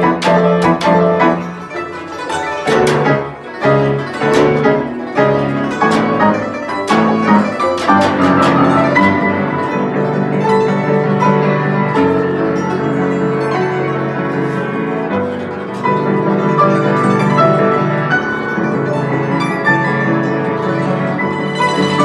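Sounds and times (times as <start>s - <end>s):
piano chords: 0.0s - 22.0s
plucked zither notes: 0.0s - 22.0s.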